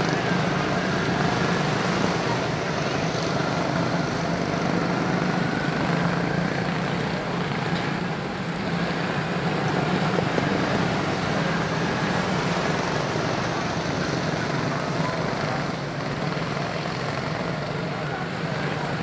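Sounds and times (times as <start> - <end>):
small race car engines droning: 0.0 - 19.0.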